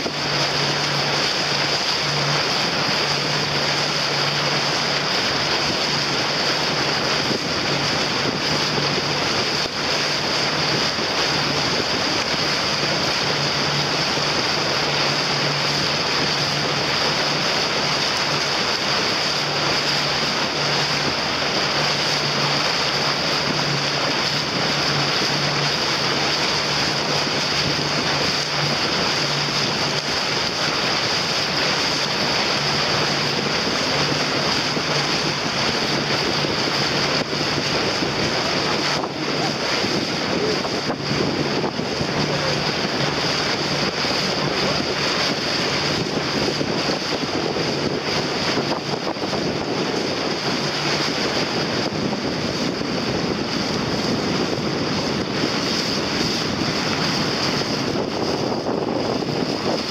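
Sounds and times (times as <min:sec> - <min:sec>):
moving water: 0:00.0 - 0:59.9
wind on microphone: 0:00.0 - 0:59.9.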